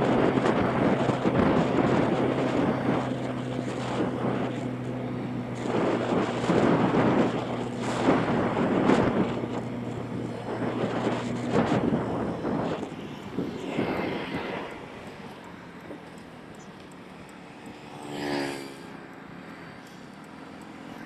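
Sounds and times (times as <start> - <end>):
wind buffeting microphone: 0.0 - 18.0
motorbike engine cruising: 0.0 - 21.0.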